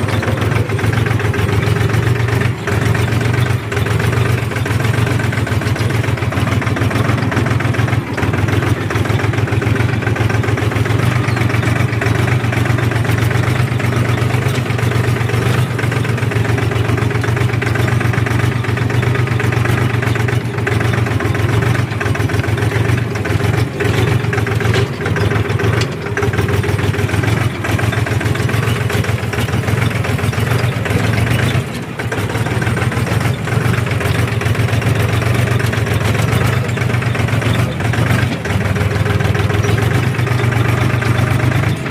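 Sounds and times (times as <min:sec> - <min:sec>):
tractor engine under load: 0:00.0 - 0:41.9.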